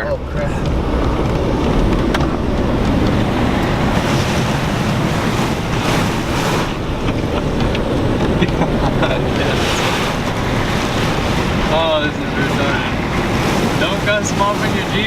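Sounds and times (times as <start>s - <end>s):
vehicle driving through floodwater: 0.0s - 15.0s
water rushing and splashing: 0.0s - 15.0s
wind buffeting microphone: 0.0s - 15.0s.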